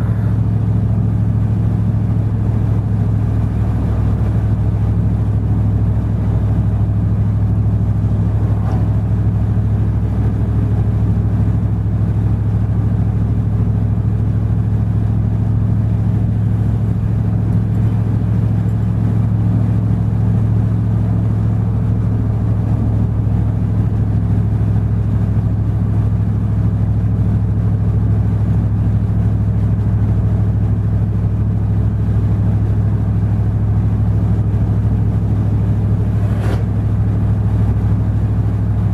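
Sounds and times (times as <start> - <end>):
truck engine and road noise drone: 0.0 - 38.9.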